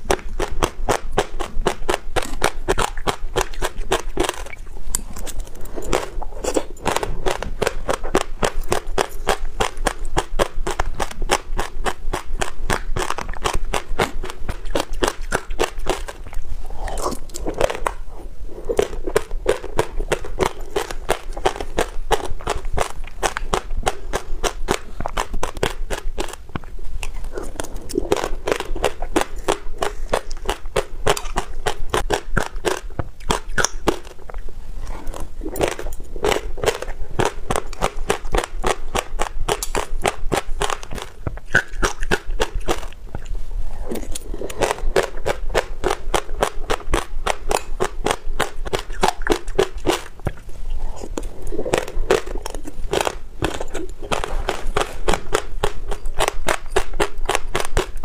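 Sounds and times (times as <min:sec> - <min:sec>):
seeds crunching while chewed: 0:00.0 - 0:58.0.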